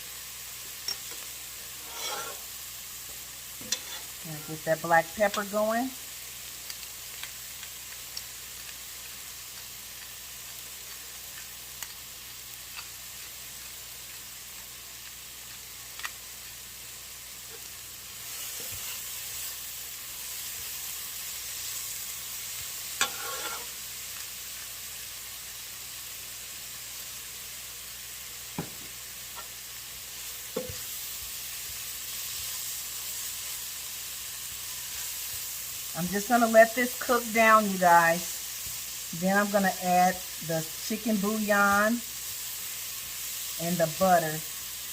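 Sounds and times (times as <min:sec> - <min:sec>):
vegetables sizzling in a pot: 0:00.0 - 0:44.9.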